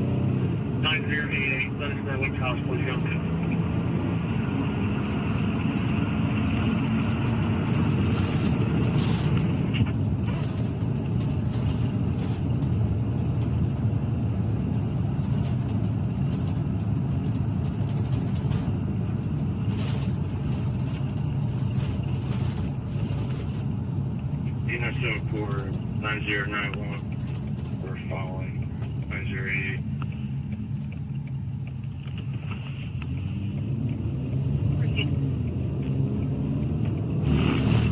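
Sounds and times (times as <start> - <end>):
car road and engine rumble: 0.0 - 37.9
faint clicks and rattles: 4.9 - 37.9.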